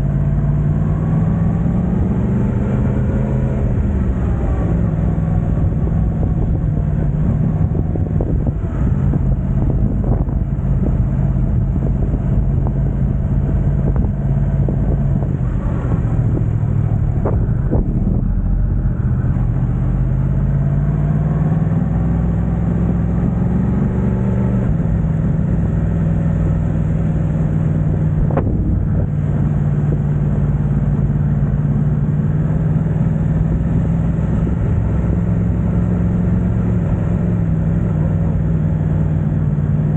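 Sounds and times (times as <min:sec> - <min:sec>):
motorcycle engine running: 0:00.0 - 0:21.0, 0:24.6 - 0:39.9.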